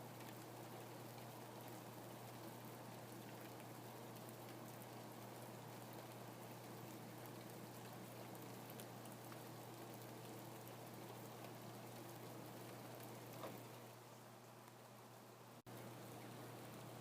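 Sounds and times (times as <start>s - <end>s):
faint steady rain: 0.0s - 17.0s.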